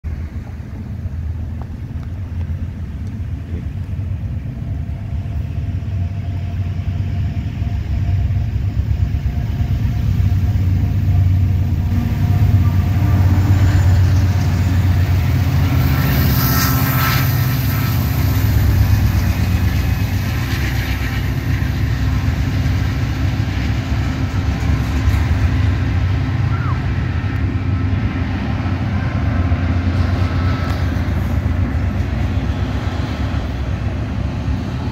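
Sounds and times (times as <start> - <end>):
diesel locomotive engines rumbling: 0.0 - 34.9
container cars rolling past: 0.1 - 34.9.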